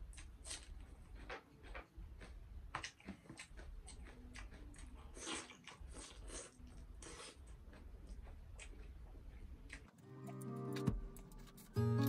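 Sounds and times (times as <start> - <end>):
wet chewing mouth sounds: 0.0 - 10.0.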